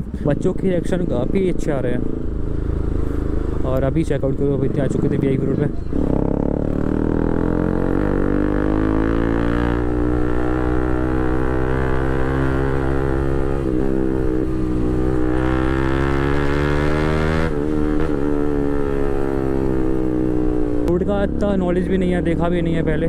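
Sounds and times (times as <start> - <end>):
motorcycle engine running loud: 0.0 - 23.0.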